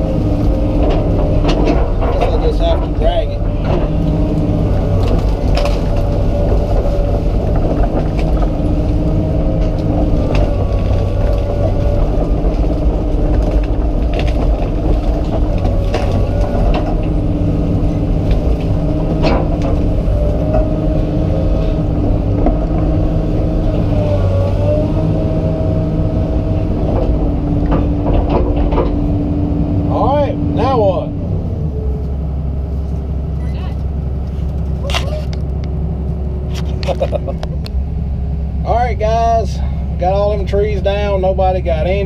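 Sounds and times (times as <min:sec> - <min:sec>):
excavator engine and hydraulics: 0:00.0 - 0:42.0.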